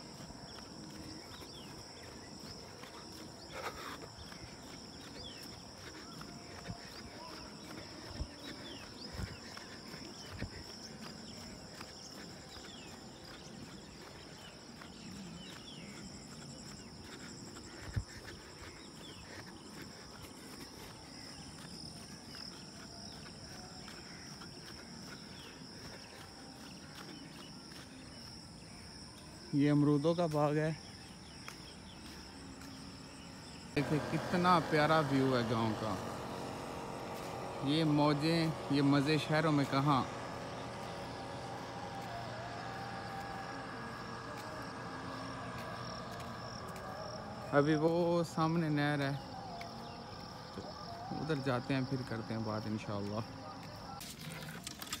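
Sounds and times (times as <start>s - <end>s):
bird chirps: 0.0s - 54.0s
footsteps: 0.0s - 55.0s
insects droning: 0.0s - 55.0s
outdoor background noise: 0.0s - 55.0s.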